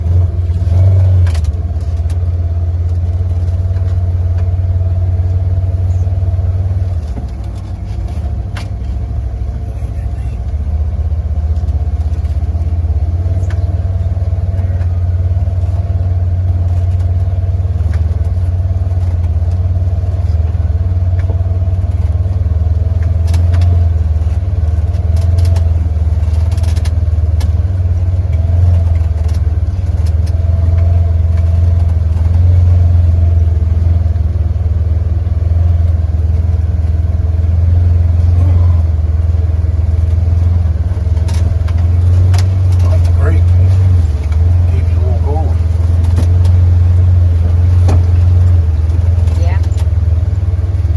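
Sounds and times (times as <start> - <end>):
vehicle engine rumbling: 0.0 - 50.9.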